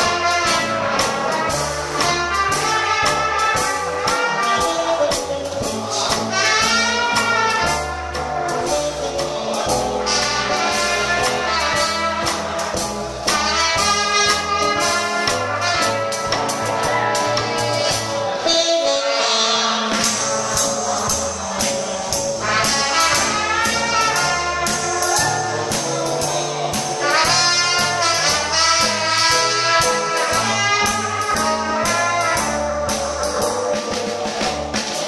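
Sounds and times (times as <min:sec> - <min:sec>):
steady drum beat: 0:00.0 - 0:18.9, 0:19.8 - 0:35.0
horns playing melody: 0:00.0 - 0:35.0.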